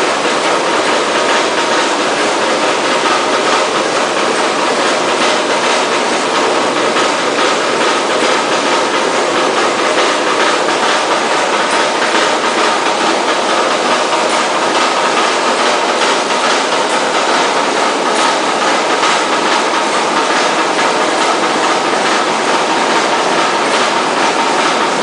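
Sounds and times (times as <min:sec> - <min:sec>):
machine rushing clatter: 0:00.0 - 0:25.0.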